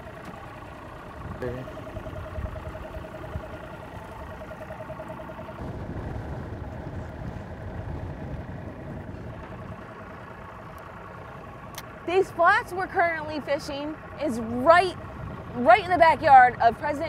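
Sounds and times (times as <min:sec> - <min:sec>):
boat motor humming: 0:00.0 - 0:17.0
wind rumble on microphone: 0:00.0 - 0:17.0.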